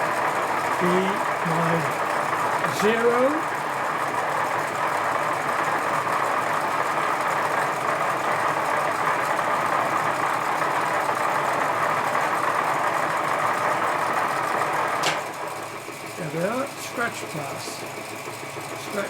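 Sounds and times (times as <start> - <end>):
lathe running: 0.0 - 19.0.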